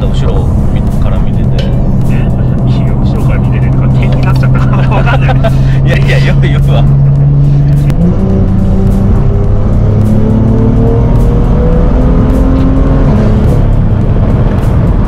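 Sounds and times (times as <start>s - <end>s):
car engine revving under load: 0.0s - 15.0s.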